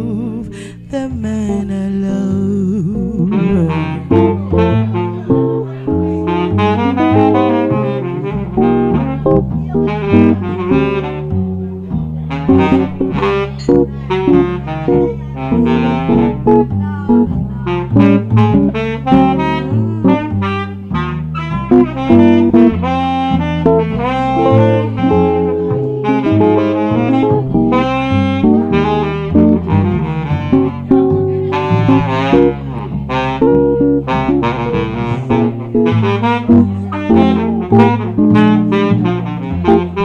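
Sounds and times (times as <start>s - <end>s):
saxophone jazz melody: 0.0s - 40.0s
walking bass line: 0.0s - 40.0s.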